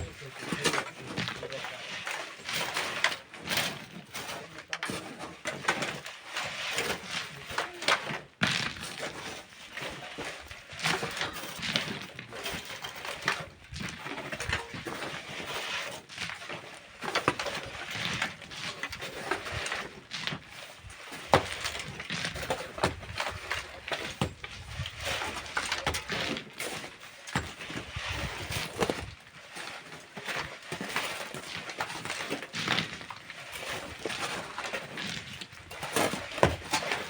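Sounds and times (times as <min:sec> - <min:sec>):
tools striking gravel and rocks: 0:00.0 - 0:37.0.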